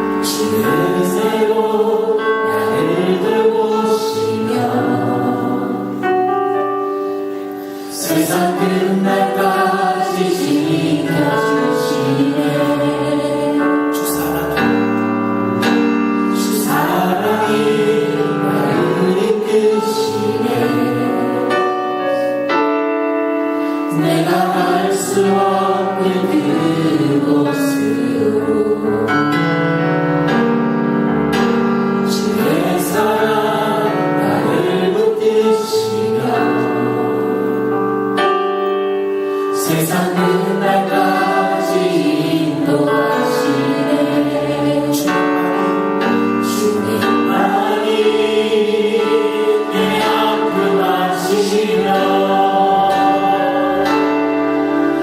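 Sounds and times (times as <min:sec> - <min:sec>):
congregation singing: 0:00.0 - 0:30.7, 0:31.3 - 0:55.0
musical accompaniment: 0:00.0 - 0:55.0.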